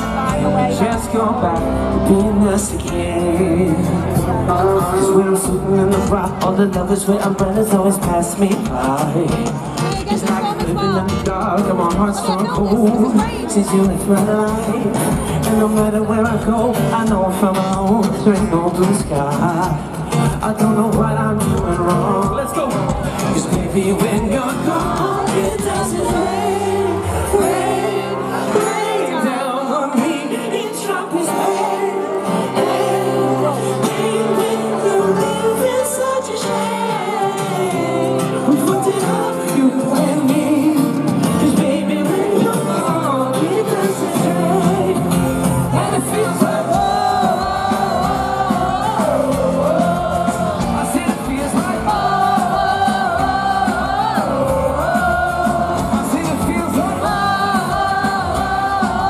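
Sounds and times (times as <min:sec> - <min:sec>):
live pop-rock band: 0:00.0 - 0:59.0
person singing: 0:00.0 - 0:59.0.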